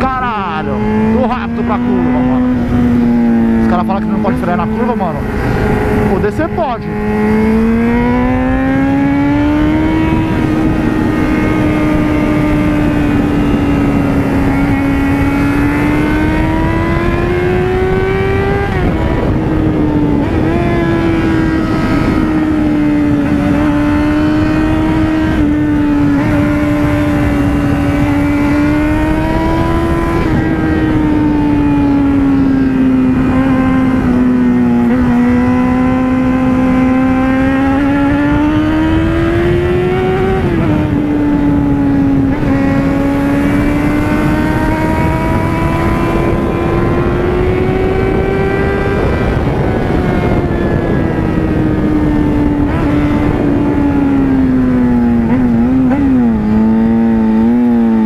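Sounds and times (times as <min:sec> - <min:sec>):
motorcycle engine running: 0:00.0 - 0:58.0
wind rushing over camera: 0:00.0 - 0:58.0.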